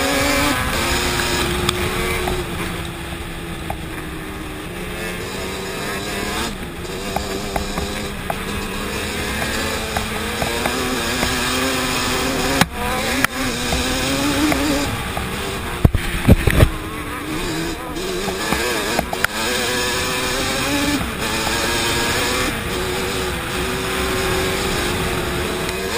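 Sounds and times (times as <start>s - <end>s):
two-stroke engine revving: 0.0s - 25.9s.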